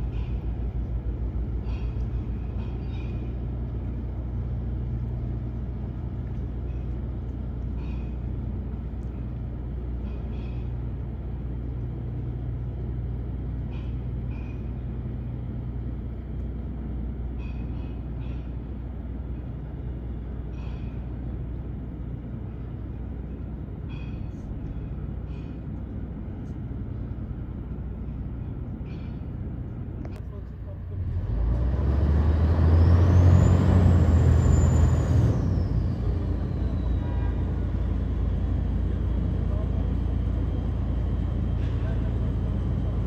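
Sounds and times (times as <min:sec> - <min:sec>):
large engine humming: 0:00.0 - 0:43.0.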